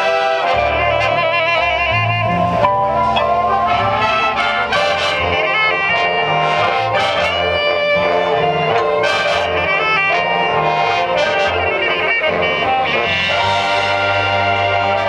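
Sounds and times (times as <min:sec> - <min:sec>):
brass chords and melody: 0:00.0 - 0:15.0.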